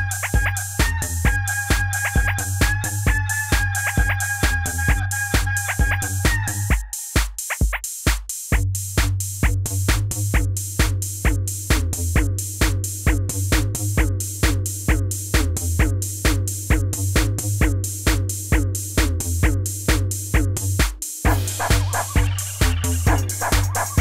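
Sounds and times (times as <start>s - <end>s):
deep sustained bass: 0.0s - 5.3s, 9.3s - 24.0s
drum machine beat: 0.0s - 24.0s.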